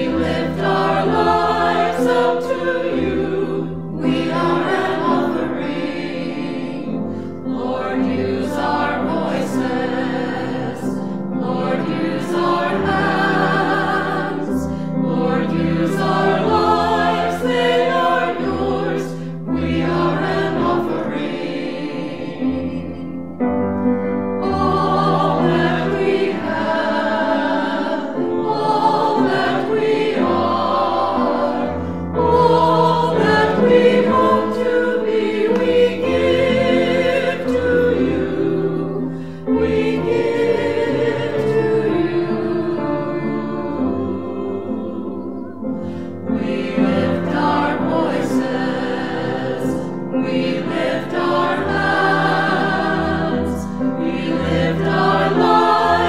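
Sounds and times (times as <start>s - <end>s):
choir singing sustained notes: 0.0s - 56.0s.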